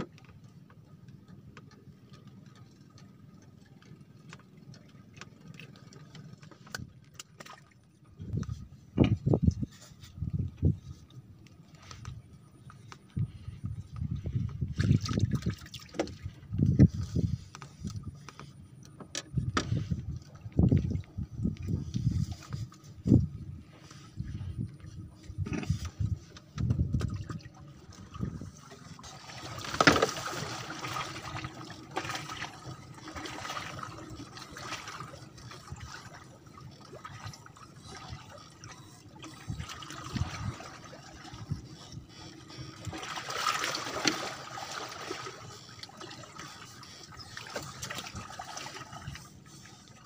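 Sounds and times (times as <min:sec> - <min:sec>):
water lapping and trickling: 0:00.0 - 0:50.0.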